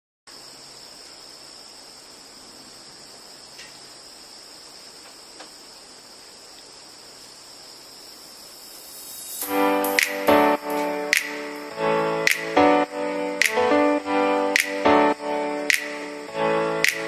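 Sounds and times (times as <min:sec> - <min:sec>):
insect chorus trilling: 0:00.3 - 0:17.0.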